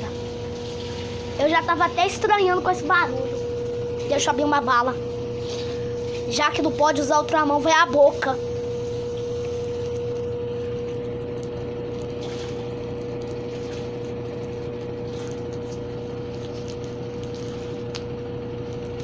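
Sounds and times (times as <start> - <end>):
constant low hum: 0.0 - 19.0
steady motor whine: 0.0 - 19.0
washing machine spinning: 0.0 - 19.0.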